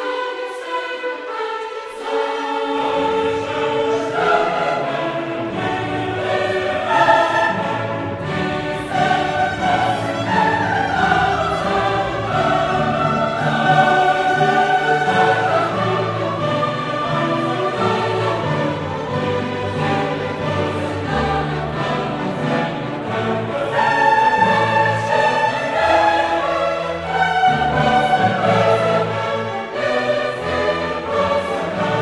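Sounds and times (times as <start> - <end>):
choir singing held notes: 0.0 - 32.0
orchestra playing: 0.0 - 32.0.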